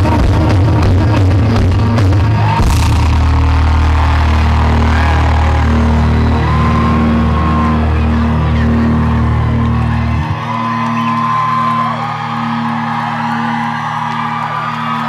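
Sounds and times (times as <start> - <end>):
live rock band distorted: 0.0 - 15.0.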